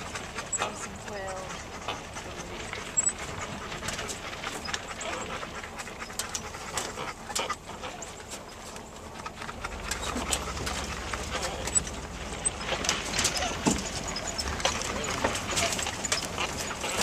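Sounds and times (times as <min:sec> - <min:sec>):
truck clicks and rattles: 0:01.8 - 0:17.0.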